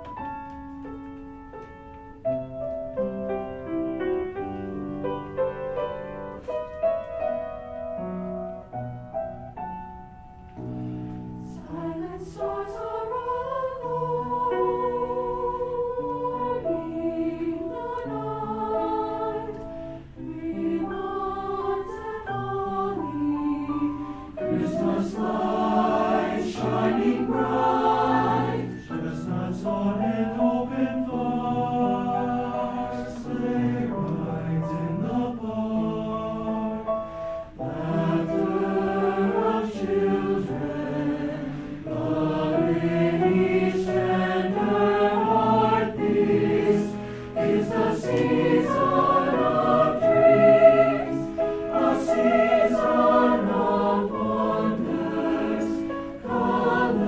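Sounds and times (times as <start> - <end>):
choir singing in harmony: 10.5 - 57.0.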